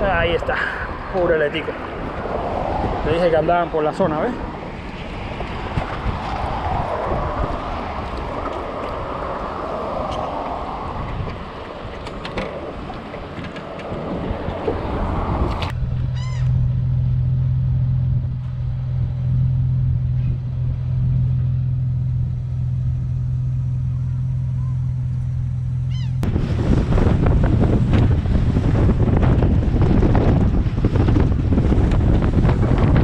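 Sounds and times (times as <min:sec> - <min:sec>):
low engine hum: 0:00.0 - 0:33.0
water noise: 0:00.0 - 0:33.0
wind buffeting microphone: 0:00.0 - 0:33.0.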